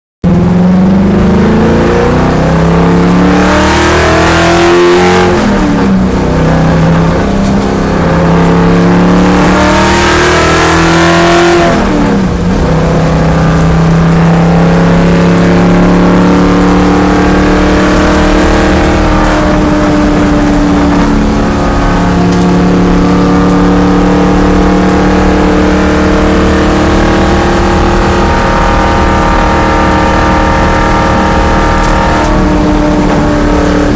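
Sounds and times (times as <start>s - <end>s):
car engine revving with misfire: 0.2s - 33.9s.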